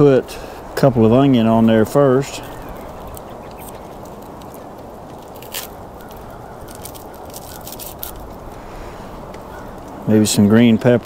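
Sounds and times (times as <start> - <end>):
steady low rush: 0.0 - 11.0.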